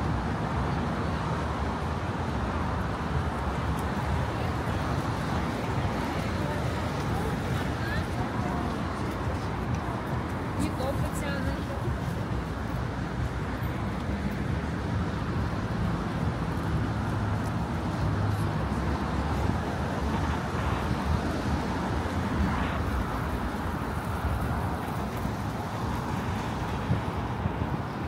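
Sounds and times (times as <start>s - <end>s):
cars going by: 0.0s - 28.0s.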